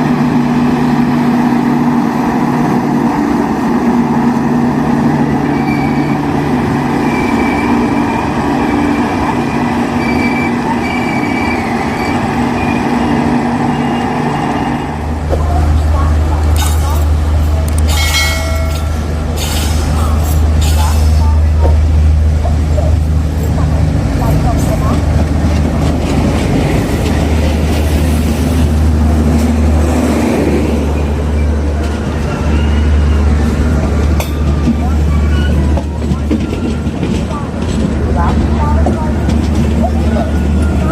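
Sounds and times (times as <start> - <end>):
diesel locomotive engine humming: 0.0 - 40.9
train and station noise: 0.0 - 40.9.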